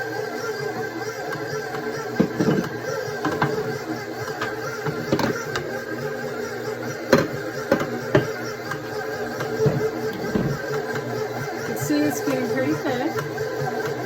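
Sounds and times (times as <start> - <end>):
stand mixer kneading dough: 0.0 - 14.0.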